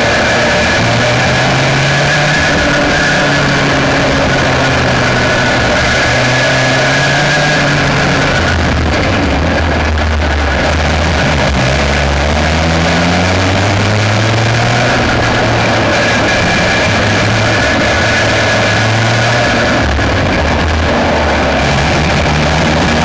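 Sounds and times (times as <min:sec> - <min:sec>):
kart engine revving: 0:00.0 - 0:23.0.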